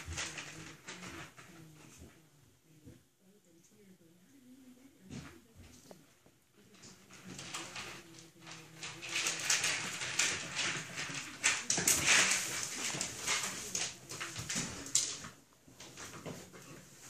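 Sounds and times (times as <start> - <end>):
puppies scratching and tapping: 0.0 - 2.3, 5.0 - 17.0.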